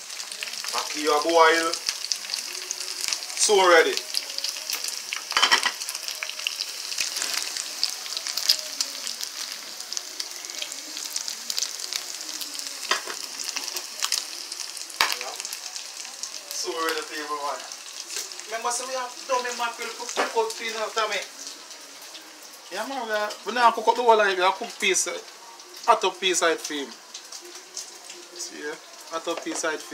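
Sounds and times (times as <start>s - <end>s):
chicken sizzling in oil: 0.0s - 29.9s.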